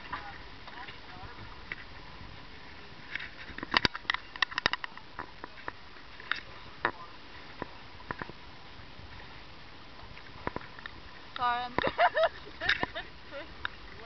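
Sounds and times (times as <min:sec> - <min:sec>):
hiss of wind and water: 0:00.0 - 0:14.0.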